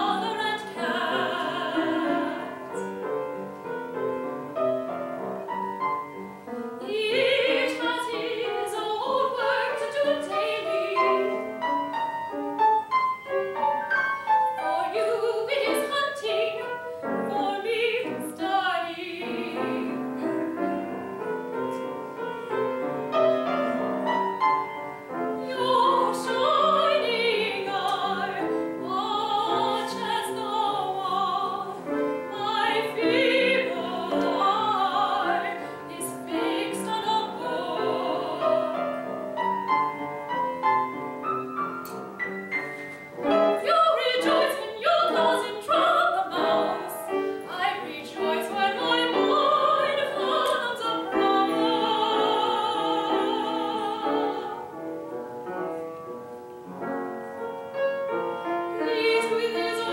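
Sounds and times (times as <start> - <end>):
piano accompaniment: 0.0 - 59.9.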